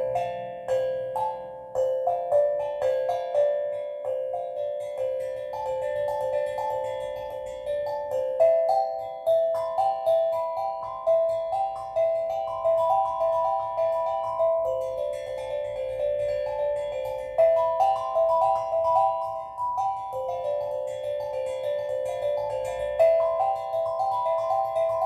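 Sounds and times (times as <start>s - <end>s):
steel drum melody: 0.0s - 25.0s.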